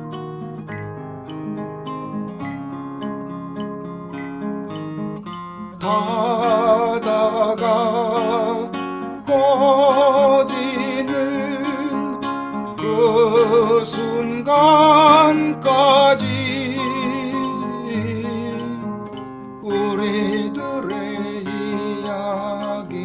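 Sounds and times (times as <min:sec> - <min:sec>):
acoustic guitar playing: 0:00.0 - 0:23.0
held wavering melody line: 0:00.0 - 0:23.0.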